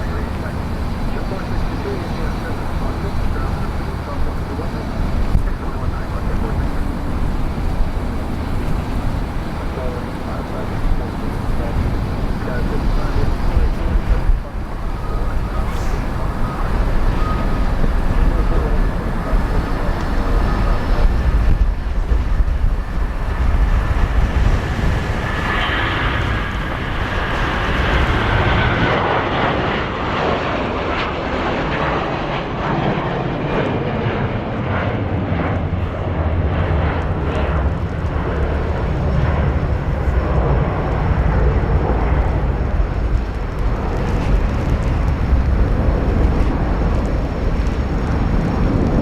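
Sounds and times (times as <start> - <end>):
broad rushing noise: 0.0 - 49.0
deep engine rumble: 0.0 - 49.0
jet engine whine: 0.0 - 49.0.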